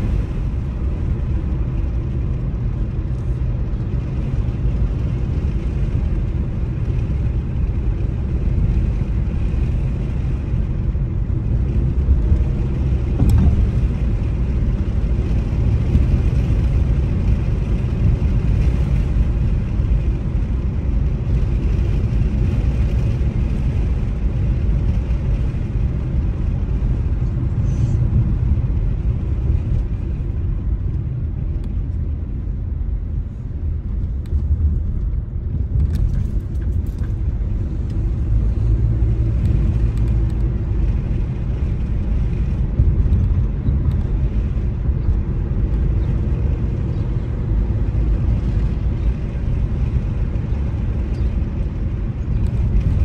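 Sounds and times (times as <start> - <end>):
car driving on road: 0.0 - 53.0.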